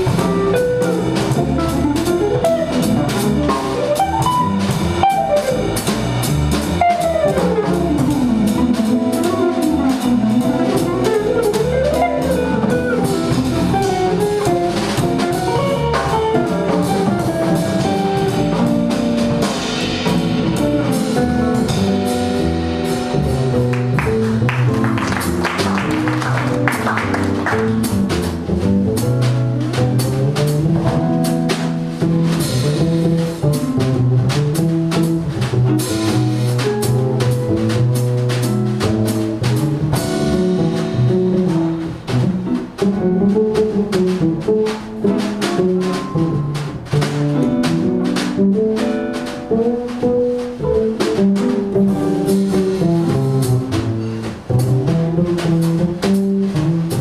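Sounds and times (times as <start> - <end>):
drum kit on cymbals and drums: 0.0 - 26.7, 27.3 - 57.0
jazz guitar: 0.0 - 57.0
upright double bass: 0.0 - 57.0.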